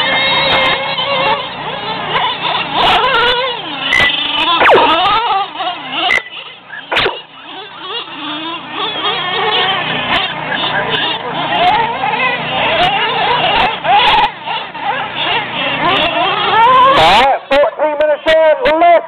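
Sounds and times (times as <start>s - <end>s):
rc truck motors whining: 0.0s - 18.9s.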